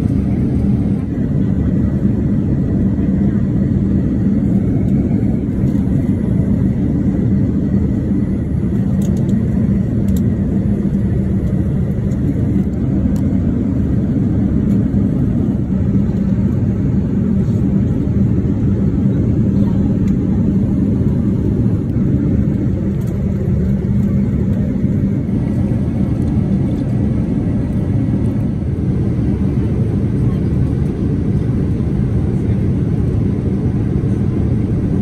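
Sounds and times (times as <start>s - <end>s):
airplane cabin roar: 0.0s - 35.0s.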